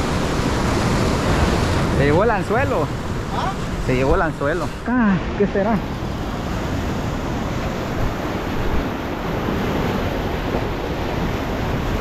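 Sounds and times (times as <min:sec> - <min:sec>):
ocean surf washing over rocks: 0:00.0 - 0:12.0
wind rumbling on microphone: 0:00.0 - 0:12.0.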